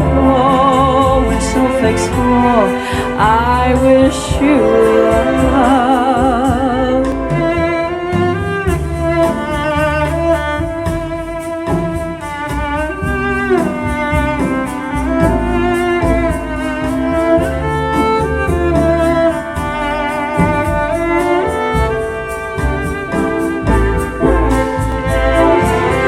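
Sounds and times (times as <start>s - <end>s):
orchestral strings over loudspeakers: 0.0s - 26.0s.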